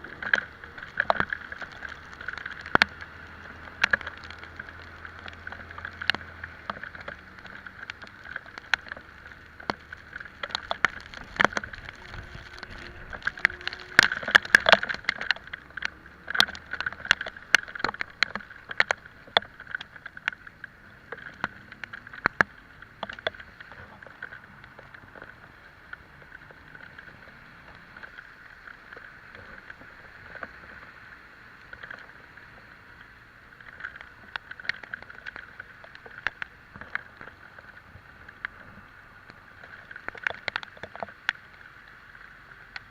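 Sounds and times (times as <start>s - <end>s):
raindrops tapping on camera: 0.0s - 42.9s
wet road and wind hiss: 0.0s - 42.9s.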